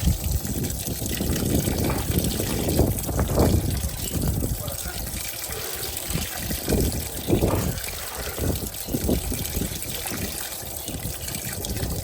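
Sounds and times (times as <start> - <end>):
water splashing into washing machine: 0.0 - 12.0.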